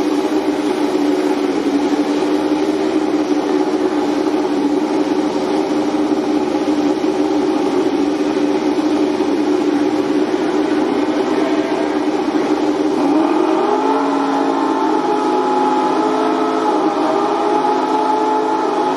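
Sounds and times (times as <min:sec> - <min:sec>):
engine running steady drone: 0:00.0 - 0:18.9.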